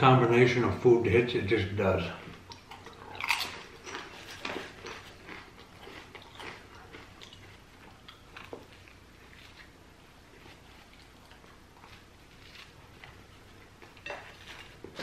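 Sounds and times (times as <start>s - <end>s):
potato chip crunching: 2.5s - 15.0s.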